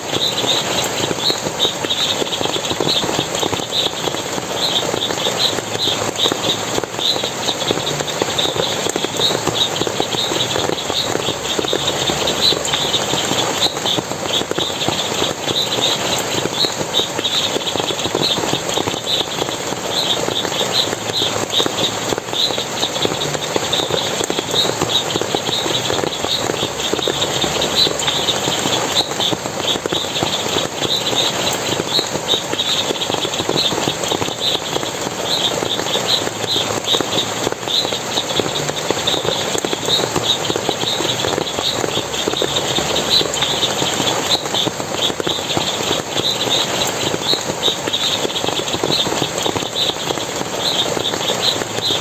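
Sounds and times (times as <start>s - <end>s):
water splashing and running: 0.0s - 52.0s.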